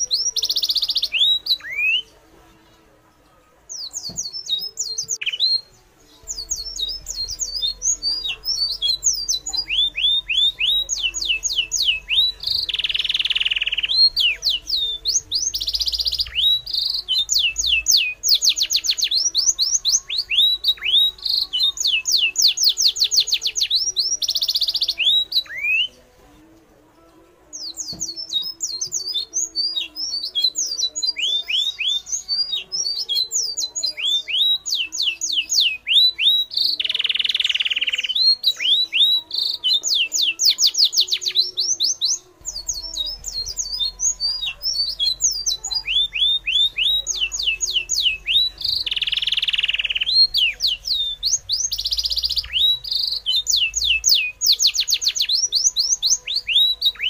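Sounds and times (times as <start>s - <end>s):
birds chirping: 0.0s - 26.1s, 27.0s - 57.0s.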